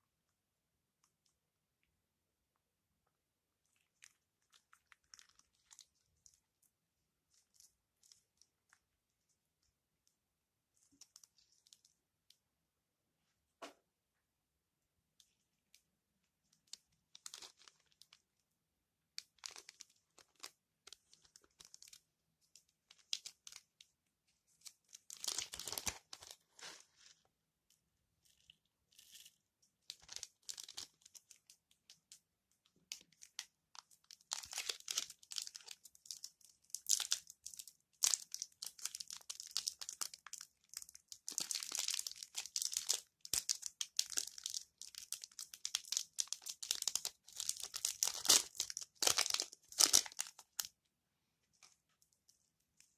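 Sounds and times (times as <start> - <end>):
crinkly material crackling and tearing: 3.0 - 12.4, 15.1 - 18.4, 19.1 - 52.9.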